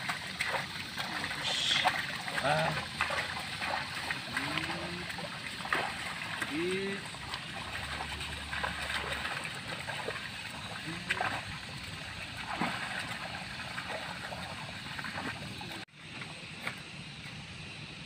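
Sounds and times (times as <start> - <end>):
small splashes: 0.0 - 15.9
muddy water sloshing and splashing: 0.0 - 16.4.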